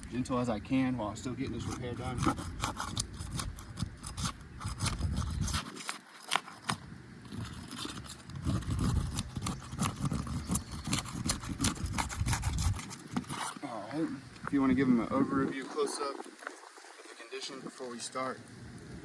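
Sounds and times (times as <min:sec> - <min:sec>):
scraping and crackling shingles: 0:00.0 - 0:19.0.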